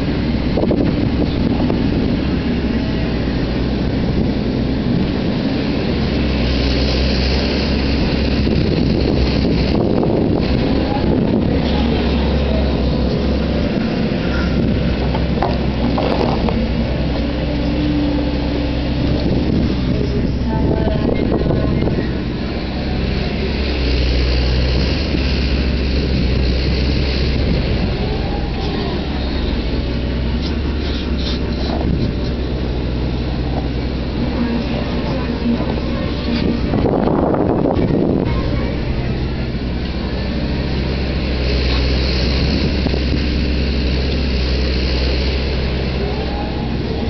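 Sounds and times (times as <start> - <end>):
excavator diesel engine droning: 0.0 - 47.0.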